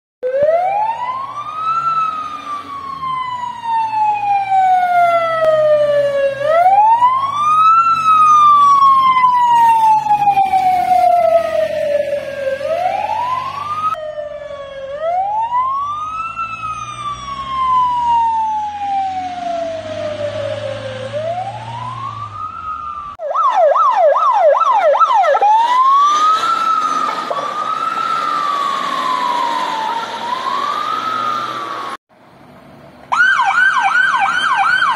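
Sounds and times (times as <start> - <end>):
fire engine sirens wailing: 0.2 - 32.0, 33.0 - 34.9
vehicle engines: 0.2 - 34.9.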